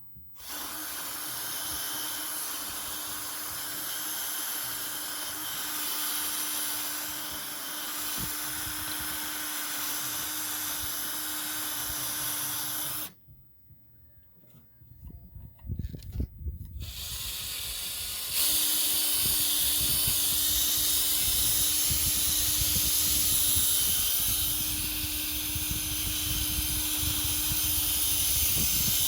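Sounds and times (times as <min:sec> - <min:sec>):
buffing pad hiss: 0:00.4 - 0:13.1, 0:16.8 - 0:29.0
drill motor hum: 0:00.4 - 0:13.2, 0:16.7 - 0:29.0.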